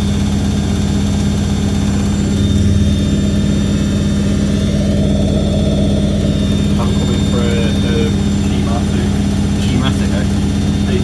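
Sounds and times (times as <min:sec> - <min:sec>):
washing machine spin cycle: 0:00.0 - 0:11.0.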